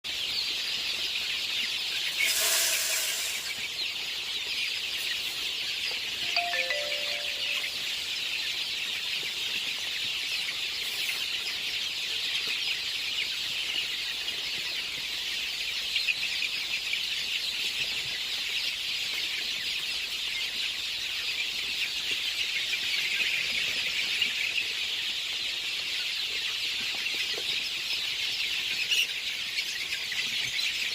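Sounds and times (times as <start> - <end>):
chicks peeping: 0.1 - 30.9.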